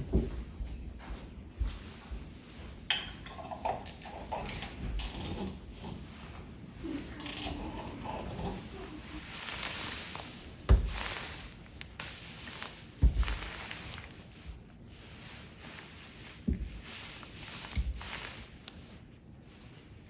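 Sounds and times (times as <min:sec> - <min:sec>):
soft rustling hiss: 0:00.0 - 0:03.2, 0:05.8 - 0:20.0.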